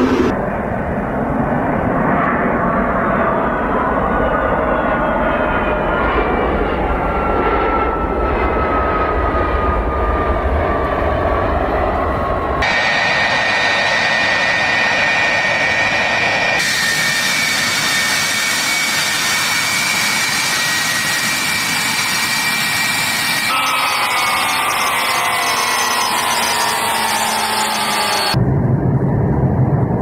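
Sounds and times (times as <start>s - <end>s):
jet engine rushing noise: 0.0s - 4.1s, 4.7s - 30.0s
jet engines whining: 0.0s - 30.0s.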